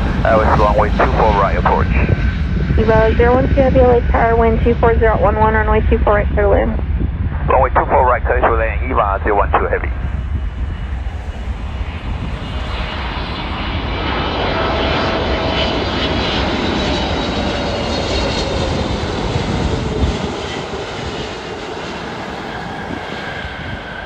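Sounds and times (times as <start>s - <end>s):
falling engine whine: 0.0s - 24.0s
jet engines roaring: 0.0s - 24.0s.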